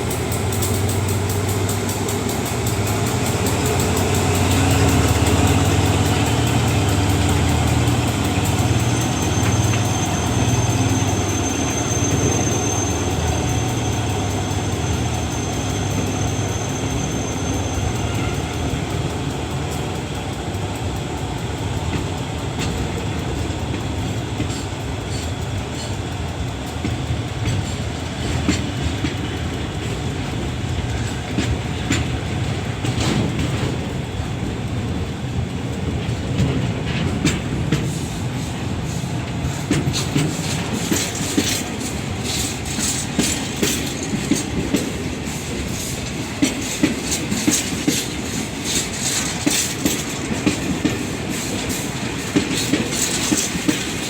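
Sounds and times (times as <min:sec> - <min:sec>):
train rumbling past: 0:00.0 - 0:54.0
wheels clacking over rail joints: 0:00.0 - 0:54.0.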